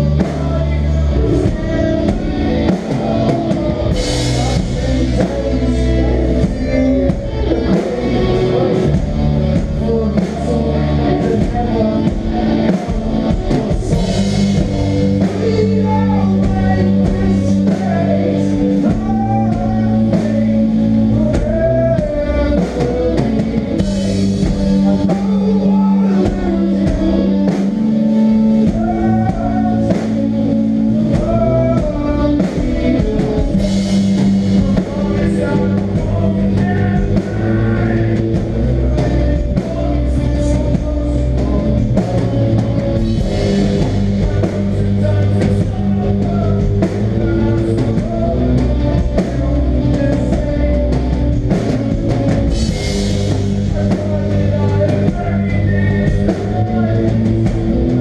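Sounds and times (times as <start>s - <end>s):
drum kit: 0.0s - 58.0s
hardcore band playing live: 0.0s - 58.0s
sustained guitar chords: 0.0s - 58.0s.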